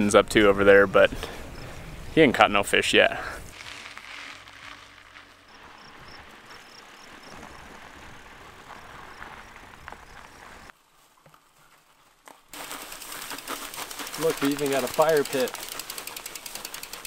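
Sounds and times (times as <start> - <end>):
bicycle tyres rolling on dirt: 0.0 - 17.0.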